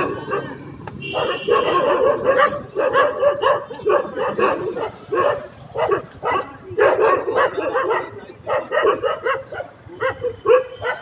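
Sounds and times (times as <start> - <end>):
dogs yelping: 1.2 - 11.0.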